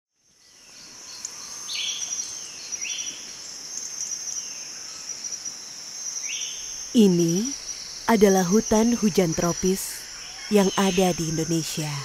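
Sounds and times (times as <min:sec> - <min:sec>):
insect chorus with trills: 0:00.2 - 0:12.0.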